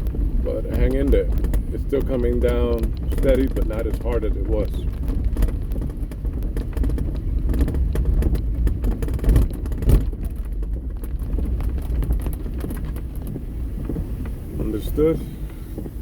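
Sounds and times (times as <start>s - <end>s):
heavy thumps: 0.0s - 16.0s
low road rumble: 0.0s - 16.0s
steady rain: 0.0s - 16.0s.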